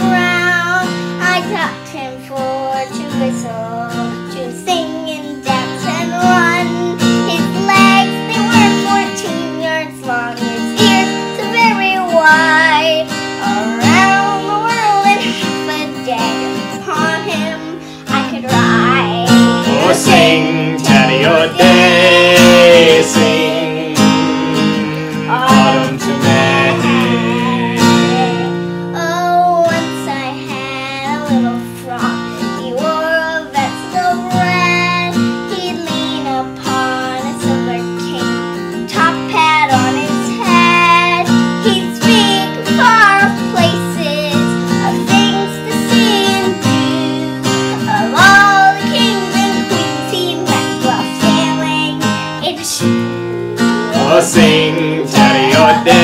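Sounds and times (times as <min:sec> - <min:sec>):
girl and man singing folk song: 0:00.0 - 0:56.0
strummed acoustic guitar: 0:00.0 - 0:56.0.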